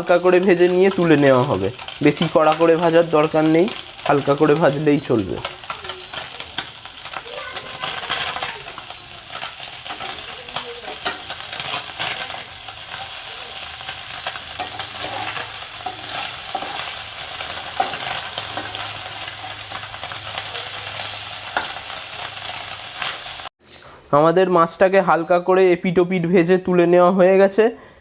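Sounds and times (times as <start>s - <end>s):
fish sizzling in hot oil: 0.0s - 23.5s.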